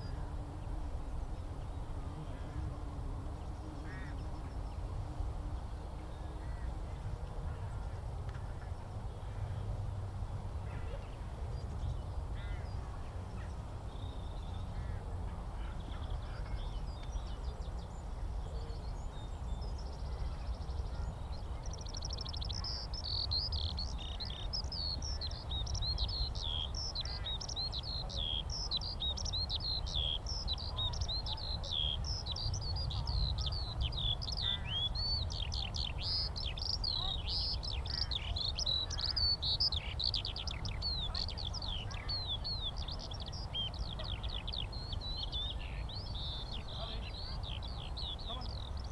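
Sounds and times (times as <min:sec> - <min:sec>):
skylark song: 0:00.0 - 0:48.9.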